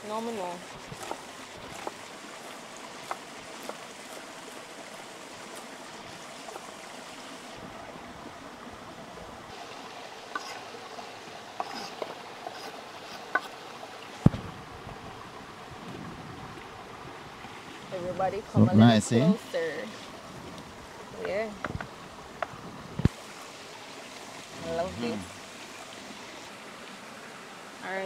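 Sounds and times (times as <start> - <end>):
shallow stream rushing: 0.0 - 28.0.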